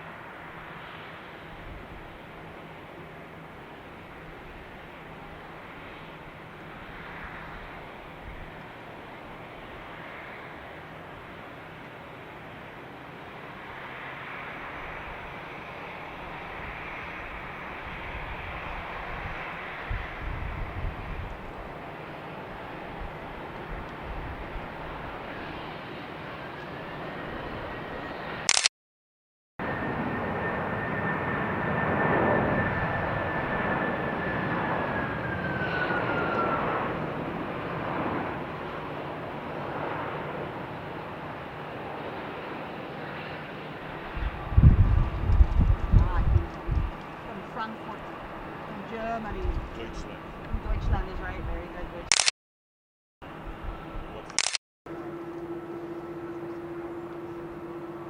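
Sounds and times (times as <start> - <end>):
jet engines rushing: 0.0 - 28.5, 29.6 - 52.2.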